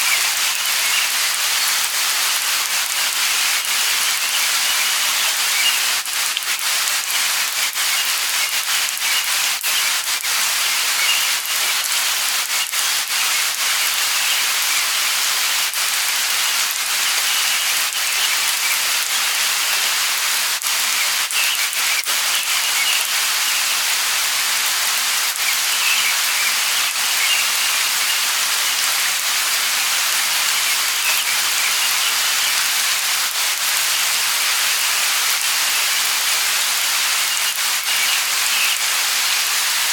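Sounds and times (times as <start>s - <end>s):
light rain falling: 0.0s - 39.9s
raindrops ticking: 0.0s - 39.9s.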